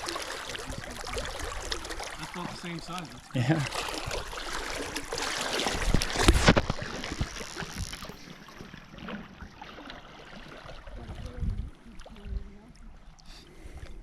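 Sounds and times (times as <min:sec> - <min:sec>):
river water rushing around boat: 0:00.0 - 0:12.7.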